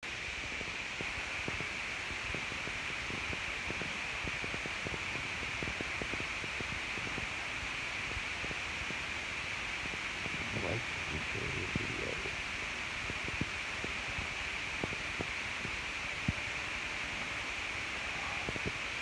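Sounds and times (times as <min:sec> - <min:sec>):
steady hiss: 0:00.0 - 0:19.0
soft scattered crackles: 0:00.1 - 0:19.0.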